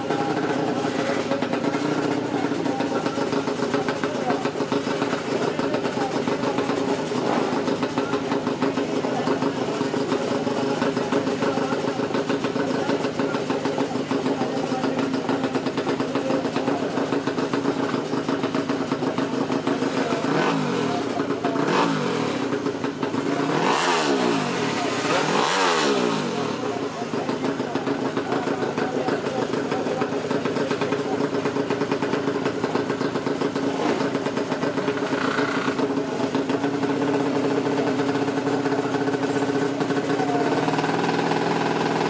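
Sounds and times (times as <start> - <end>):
motorcycle engine idling: 0.0 - 42.0
motorcycle engine revving: 0.0 - 42.0.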